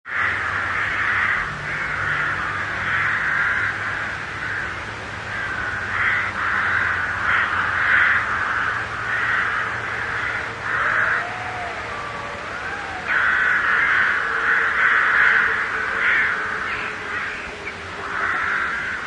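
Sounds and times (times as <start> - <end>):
crows cawing: 0.1 - 19.0
faint low steady hum: 0.2 - 19.0.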